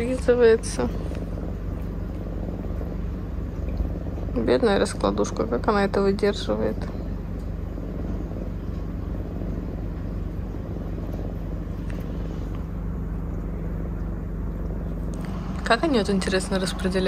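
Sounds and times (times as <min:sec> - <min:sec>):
lynx purring: 0:00.0 - 0:17.0.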